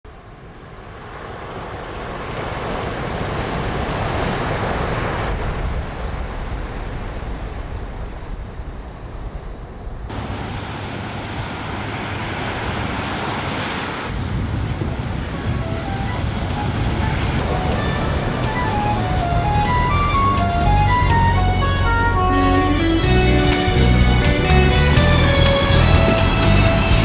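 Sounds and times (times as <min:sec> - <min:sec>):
low rumble of wind: 0:00.1 - 0:27.0
breaking waves: 0:00.6 - 0:27.0.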